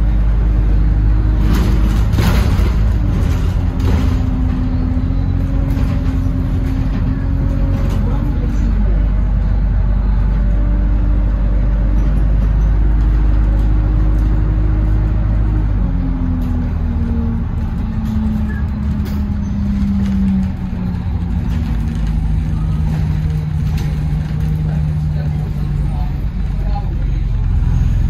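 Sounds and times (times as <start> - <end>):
bus engine rumble: 0.0 - 28.0
bus engine whine: 0.0 - 28.0.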